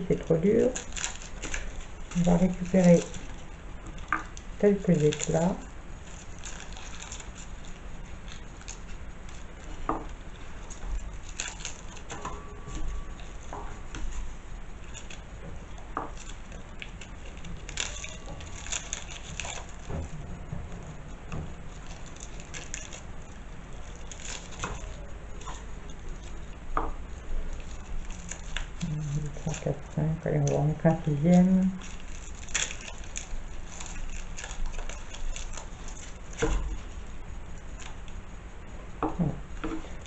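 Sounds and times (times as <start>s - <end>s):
garlic skins crackling: 0.0s - 40.0s.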